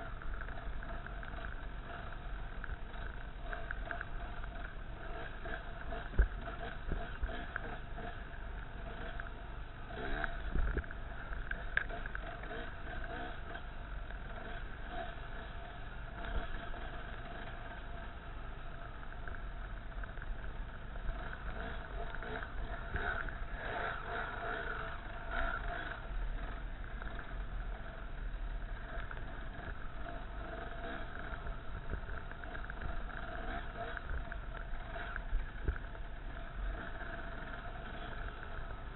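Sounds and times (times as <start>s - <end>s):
dirt bike engine running: 0.0s - 38.9s
wind rumble on microphone: 0.0s - 38.9s.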